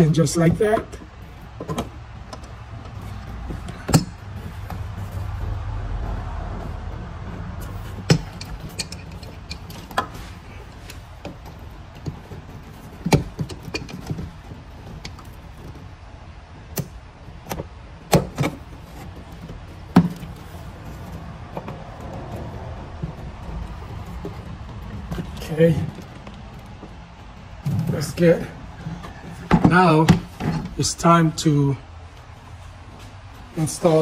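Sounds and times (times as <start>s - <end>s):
sharp clicks and knocks: 0.0s - 16.0s, 16.6s - 30.8s
steady low hum: 0.0s - 34.0s.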